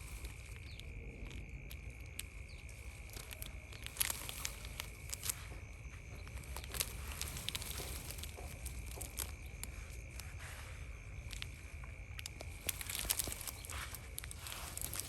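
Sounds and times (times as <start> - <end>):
low rumble: 0.0 - 15.0
rustles and light clicks: 0.0 - 15.0.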